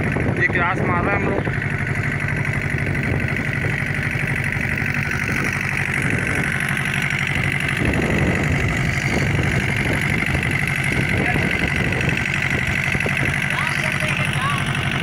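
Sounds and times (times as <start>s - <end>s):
boat engine pulsing drone: 0.0s - 15.0s.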